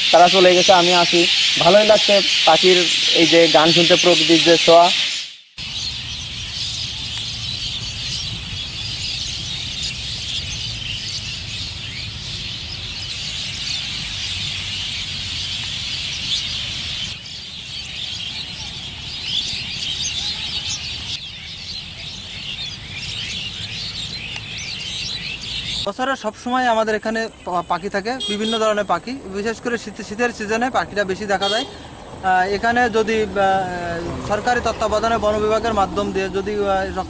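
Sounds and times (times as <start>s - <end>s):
flock of birds chirping: 0.0s - 37.0s.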